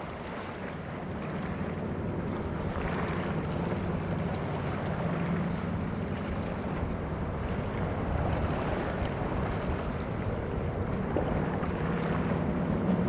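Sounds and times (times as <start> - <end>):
ship engine low drone: 0.0 - 13.0
water wash: 0.0 - 13.0
wind on microphone: 0.0 - 13.0.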